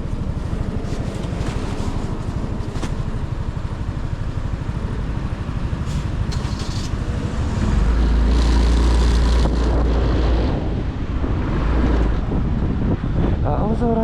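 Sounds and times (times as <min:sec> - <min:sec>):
wind and road hiss: 0:00.0 - 0:14.0.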